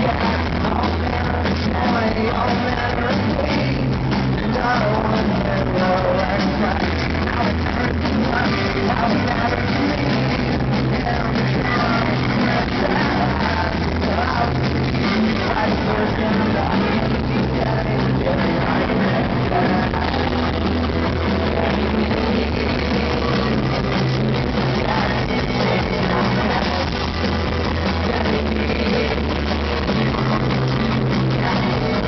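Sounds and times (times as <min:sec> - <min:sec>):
live rock band playing loudly: 0:00.0 - 0:32.0.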